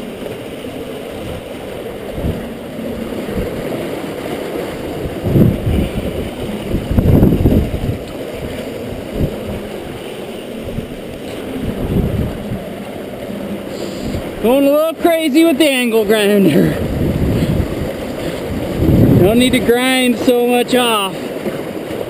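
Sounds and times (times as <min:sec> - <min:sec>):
river water rushing: 0:00.0 - 0:22.0
water splashing and sloshing: 0:00.0 - 0:22.0.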